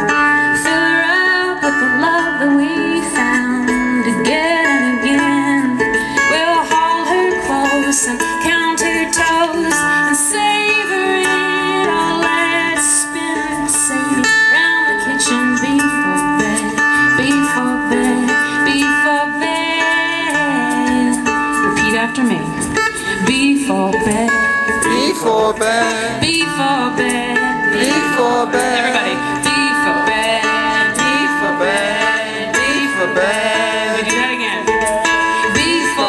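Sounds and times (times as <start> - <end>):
acoustic string instrument strummed: 0.0 - 36.0
woman singing: 0.0 - 36.0.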